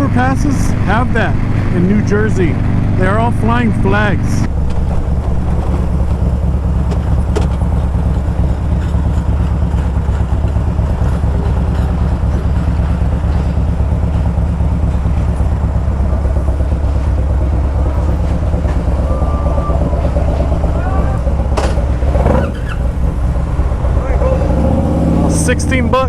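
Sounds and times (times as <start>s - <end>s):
motorcycle engine drone: 0.0s - 26.0s
road and wind noise: 0.0s - 26.0s.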